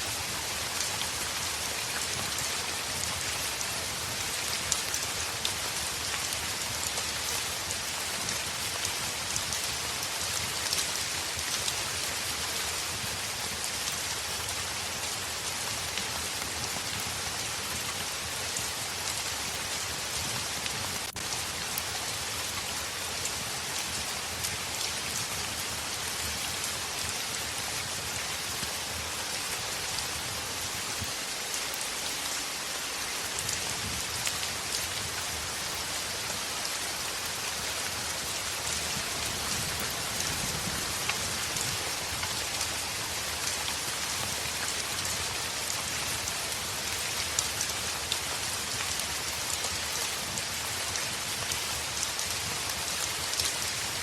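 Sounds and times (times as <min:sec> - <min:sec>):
heavy rain on a window: 0:00.1 - 0:54.0.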